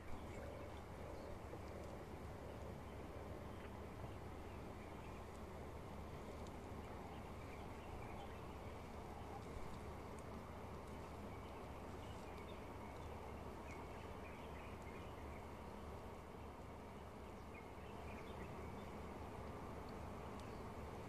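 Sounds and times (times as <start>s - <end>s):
faint high chirps and ticks: 0.0s - 21.0s.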